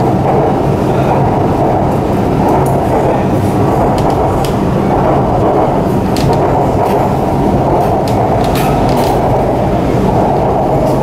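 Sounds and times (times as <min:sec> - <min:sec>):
metro train running noise: 0:00.0 - 0:11.0.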